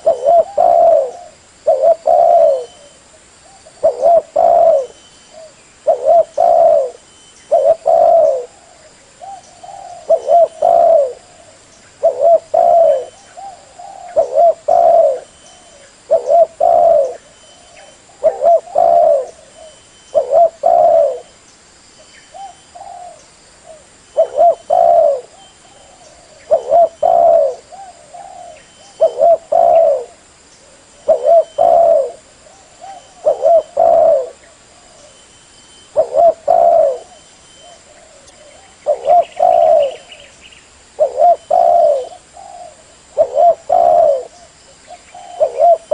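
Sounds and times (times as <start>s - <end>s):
dove cooing: 0.0s - 21.3s, 22.3s - 35.2s, 35.8s - 40.3s, 40.9s - 45.9s.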